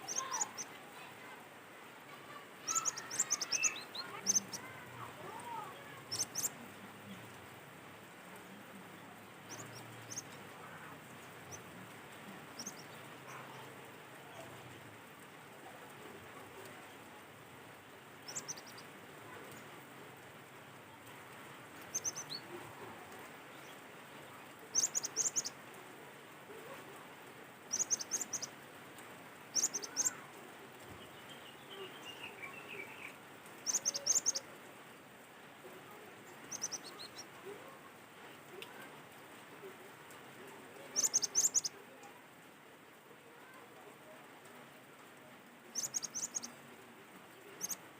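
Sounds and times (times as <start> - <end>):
steady background hiss: 0.0 - 47.9.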